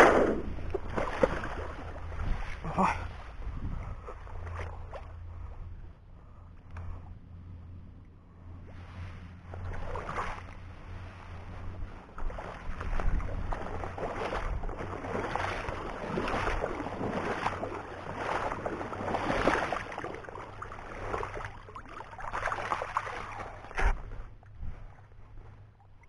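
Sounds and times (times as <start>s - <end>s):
wading through water splashing: 0.0s - 7.1s, 8.3s - 26.0s.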